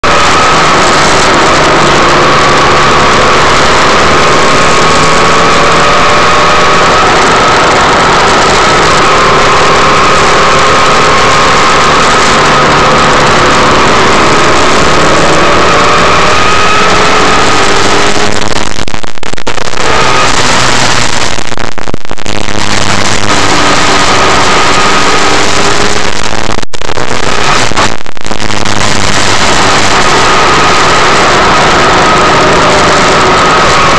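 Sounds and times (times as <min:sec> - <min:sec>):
vehicle engine running: 0:00.0 - 0:33.9
wind and road noise: 0:00.0 - 0:33.9.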